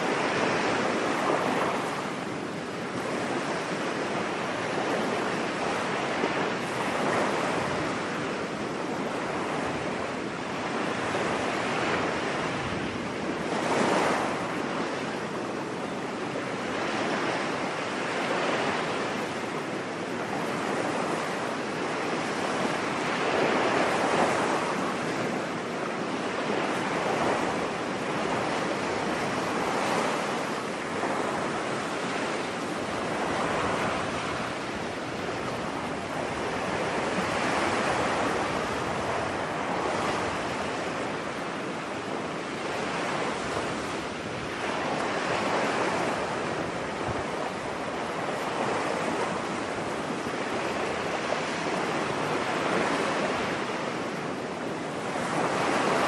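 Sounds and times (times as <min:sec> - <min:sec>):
ocean waves washing onto beach: 0:00.0 - 0:56.0.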